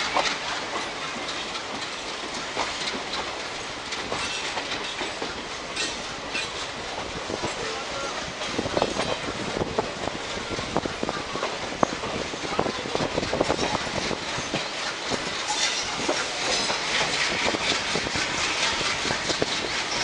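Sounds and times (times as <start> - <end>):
train wheel and wind rush: 0.0 - 20.0.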